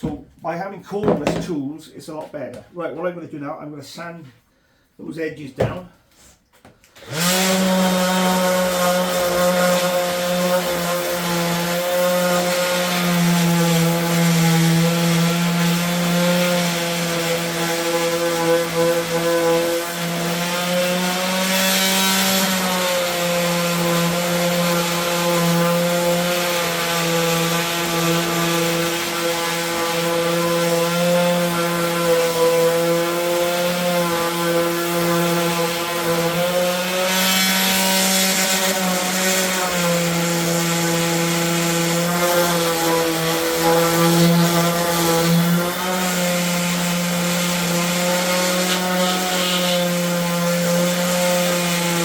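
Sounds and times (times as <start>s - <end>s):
electric sander on wood: 7.0s - 52.0s.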